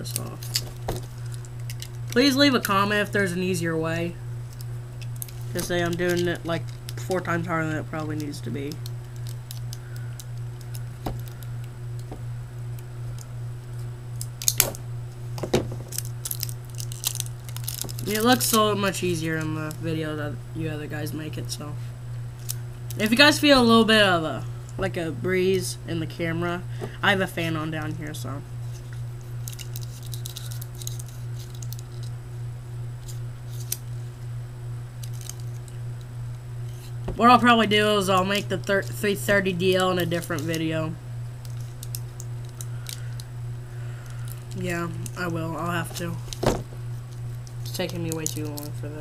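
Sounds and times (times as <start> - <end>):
electric fan humming: 0.0 - 49.0.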